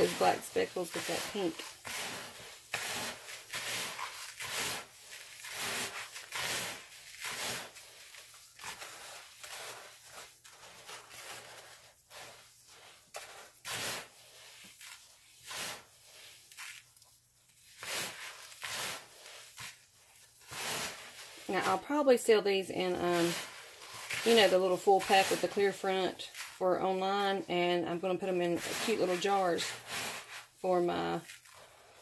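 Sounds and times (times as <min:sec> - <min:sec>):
salt crystals swishing in a bowl: 0:00.0 - 0:32.0.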